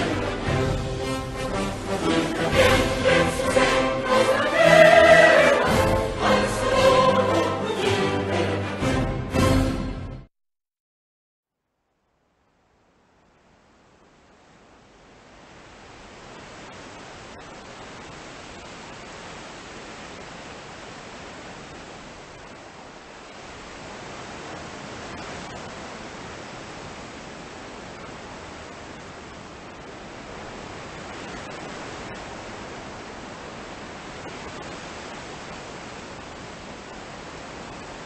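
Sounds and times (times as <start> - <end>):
steady rushing noise: 0.0 - 9.0, 13.6 - 38.0.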